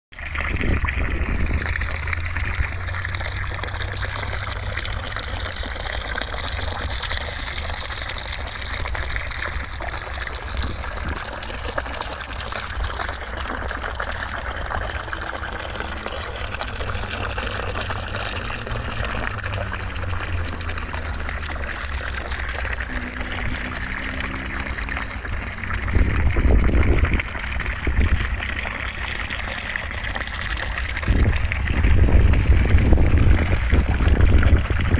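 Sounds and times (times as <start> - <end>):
running water gushing: 0.1 - 34.9.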